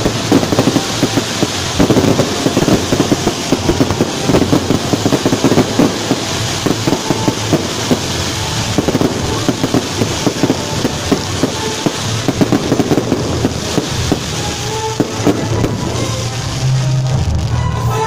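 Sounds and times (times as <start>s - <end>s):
fireworks pops and bangs: 0.0s - 17.9s
crackling sparks: 0.0s - 18.0s.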